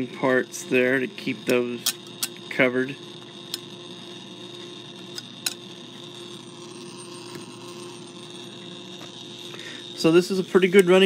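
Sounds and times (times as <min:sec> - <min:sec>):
spring motor whirring: 0:00.0 - 0:11.0.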